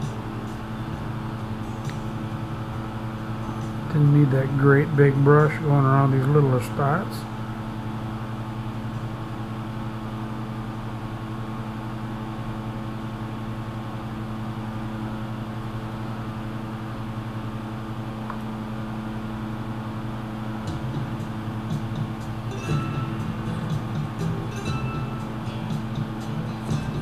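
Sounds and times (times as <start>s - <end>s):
electric machine hum: 0.0s - 27.0s.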